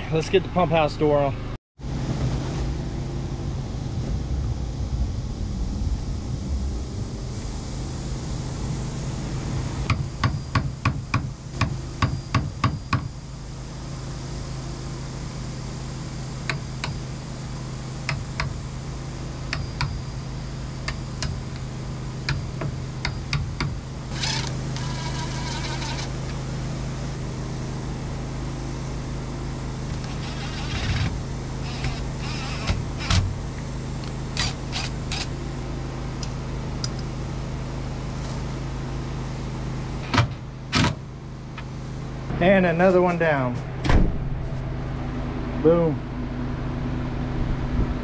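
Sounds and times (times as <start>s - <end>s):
engine hum: 0.0s - 48.0s.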